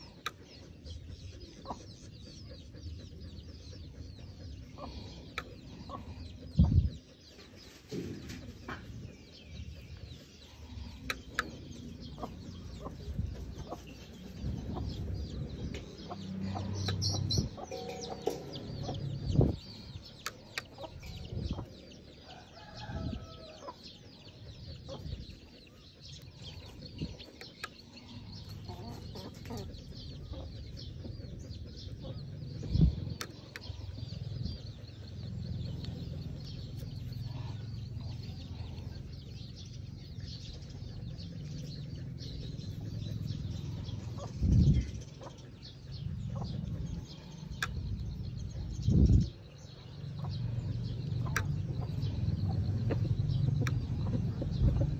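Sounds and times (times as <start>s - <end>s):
chickens clucking: 0.0s - 54.9s.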